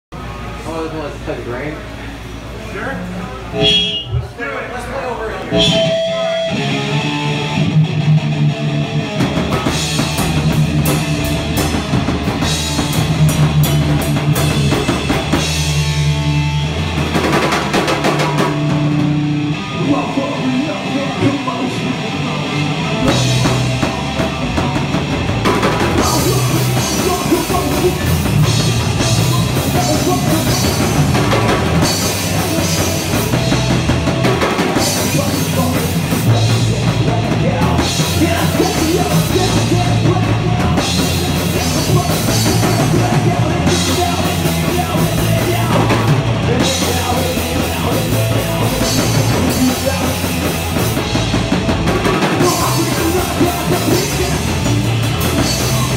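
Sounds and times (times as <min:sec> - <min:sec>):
rock band playing live: 0:03.4 - 0:04.4, 0:05.4 - 0:55.9
drum kit: 0:03.6 - 0:04.4, 0:05.5 - 0:55.9.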